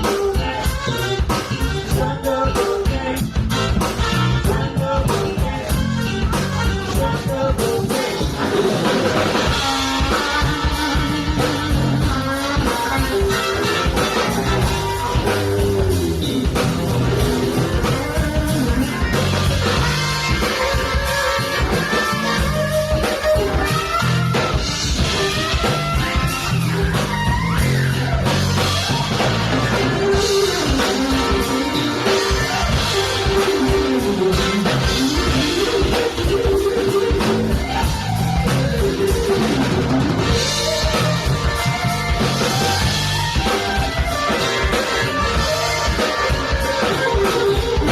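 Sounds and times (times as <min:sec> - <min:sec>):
funk band playing live: 0:00.0 - 0:47.9.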